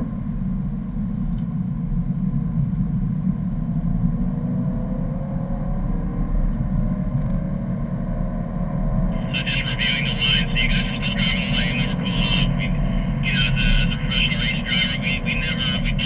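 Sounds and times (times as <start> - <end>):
car engine running hard: 0.0 - 16.0
road and wind noise: 0.0 - 16.0.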